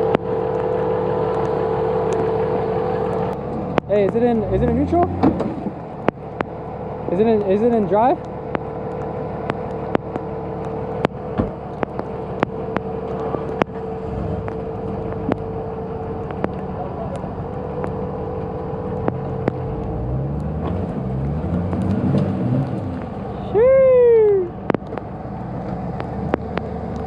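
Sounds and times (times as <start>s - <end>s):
steady whine: 0.0s - 27.0s
vehicle engine revving: 0.0s - 27.0s.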